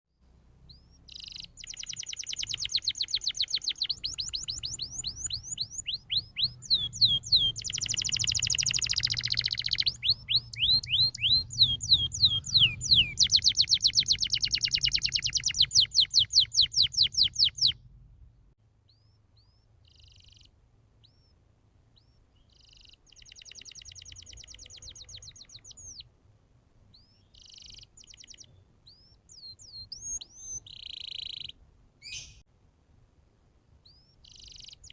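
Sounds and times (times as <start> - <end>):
canary singing trills: 0.6 - 17.8, 18.9 - 26.1, 26.9 - 32.4, 33.8 - 34.9.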